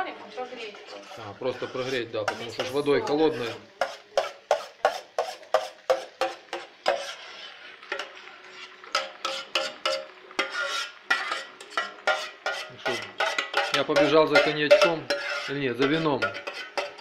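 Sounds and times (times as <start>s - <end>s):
spoon scraping metal pan: 0.0s - 17.0s.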